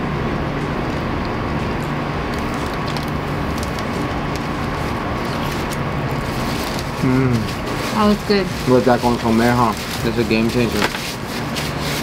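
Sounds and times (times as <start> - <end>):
low motor hum: 0.0 - 12.0
eating clicks and rustles: 1.7 - 11.8.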